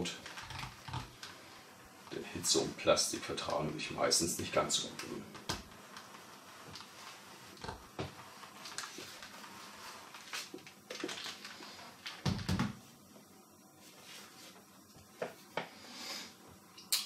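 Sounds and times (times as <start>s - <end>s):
iron rustling over paper: 0.0s - 15.7s.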